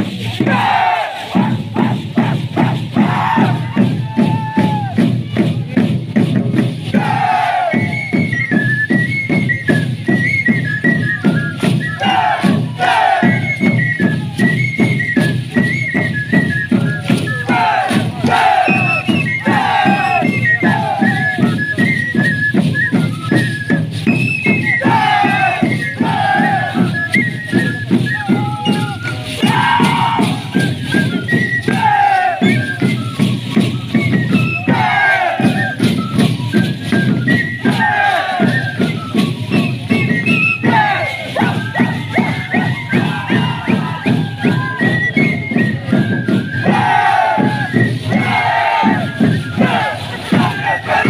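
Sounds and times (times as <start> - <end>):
live folk band music: 0.0 - 51.0.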